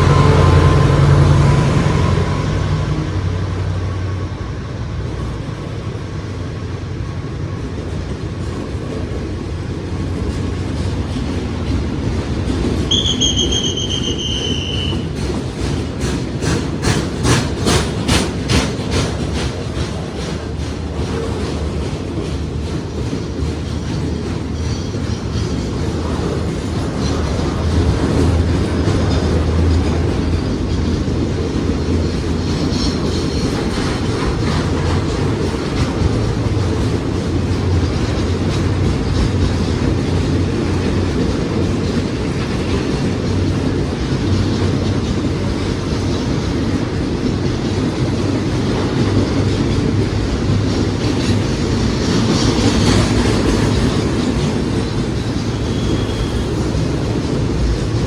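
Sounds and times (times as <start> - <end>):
train rumbling on rails: 0.0 - 58.0
wheel clatter on track: 5.0 - 58.0.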